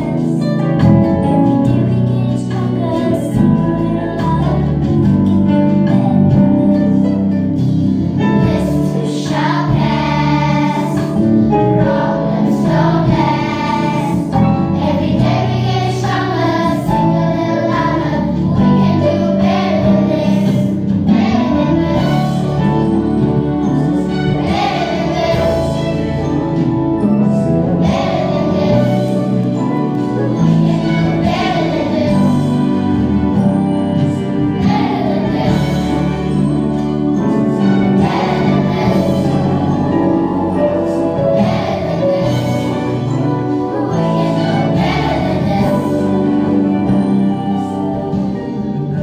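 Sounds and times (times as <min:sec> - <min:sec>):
instrumental accompaniment: 0:00.0 - 0:49.0
children's choir singing: 0:08.2 - 0:49.0.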